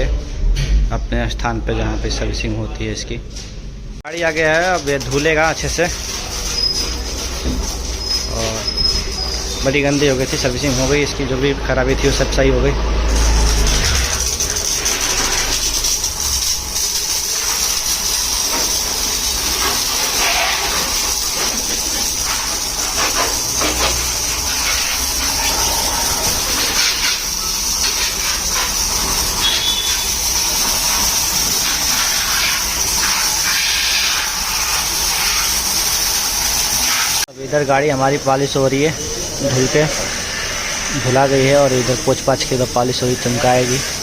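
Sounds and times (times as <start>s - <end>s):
pressure washer spraying water: 4.1s - 44.0s.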